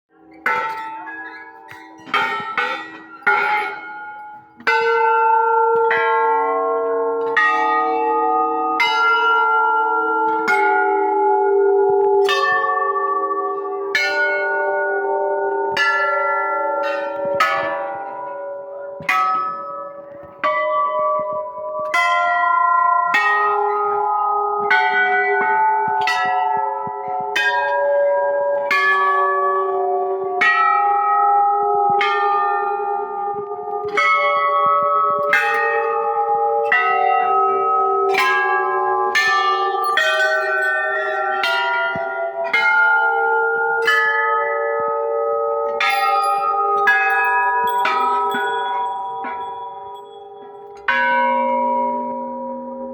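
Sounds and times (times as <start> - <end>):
temple bells ringing: 0.1 - 52.9.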